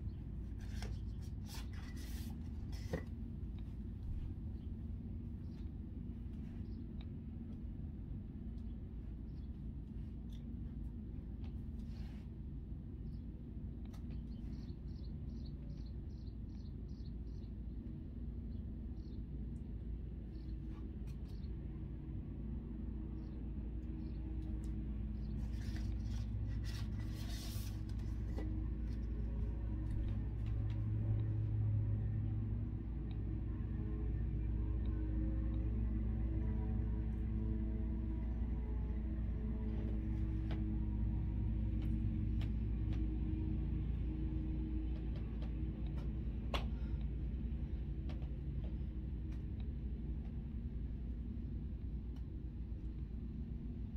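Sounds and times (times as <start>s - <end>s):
low room hum: 0.0s - 53.9s.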